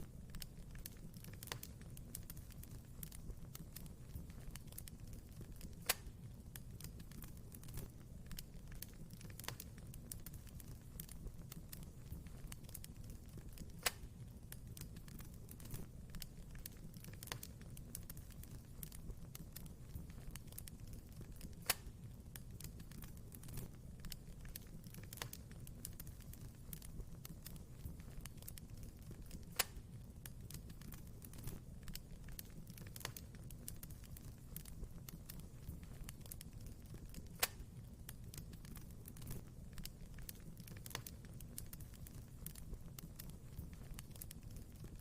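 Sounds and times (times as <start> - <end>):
fire crackling: 0.0 - 45.0
fire rumbling: 0.0 - 45.0.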